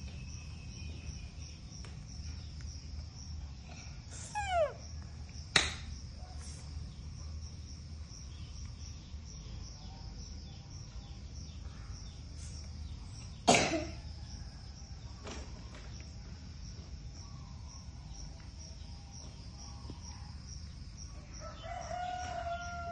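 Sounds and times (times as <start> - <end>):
insects chirping: 0.0 - 22.9.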